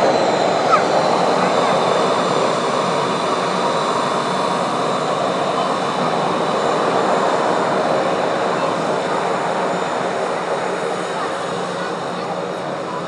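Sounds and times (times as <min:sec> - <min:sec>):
jet engines taxiing: 0:00.0 - 0:13.0.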